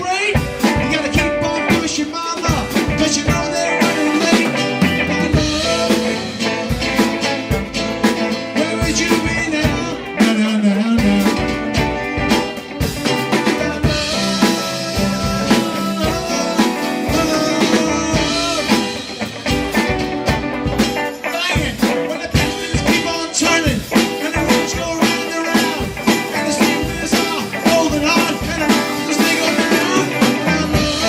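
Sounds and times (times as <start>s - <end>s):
drum kit steady beat: 0.0s - 31.0s
live band music: 0.0s - 31.0s.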